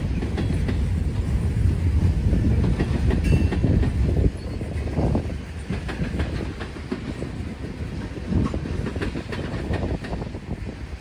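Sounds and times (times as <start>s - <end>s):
freight train wheels clacking: 0.0s - 11.0s
low train rumble: 0.0s - 11.0s.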